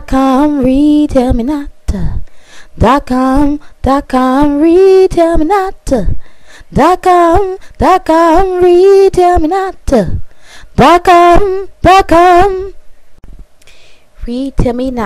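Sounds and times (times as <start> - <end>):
person singing unaccompanied: 0.0 - 12.8, 14.2 - 15.0.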